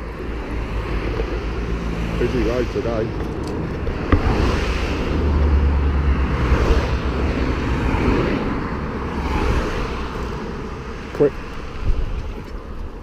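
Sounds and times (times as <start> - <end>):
heavy vehicle rumble: 0.0 - 13.0
road traffic passing: 0.0 - 13.0.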